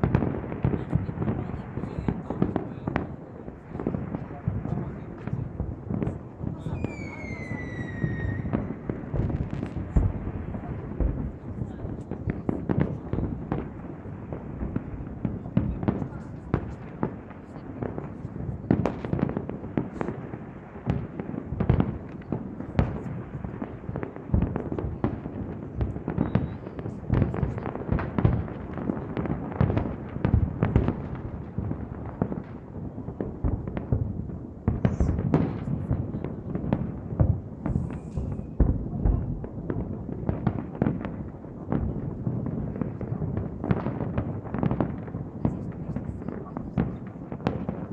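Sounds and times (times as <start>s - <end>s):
fireworks bangs and booms: 0.0s - 47.9s.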